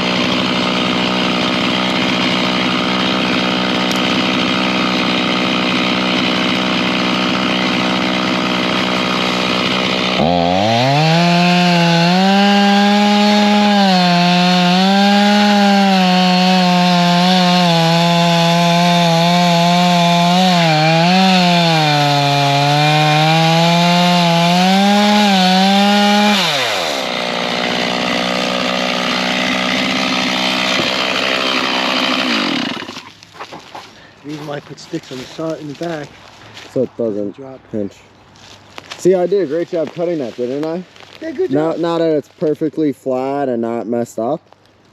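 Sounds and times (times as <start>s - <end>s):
chainsaw cutting log: 0.0s - 36.2s.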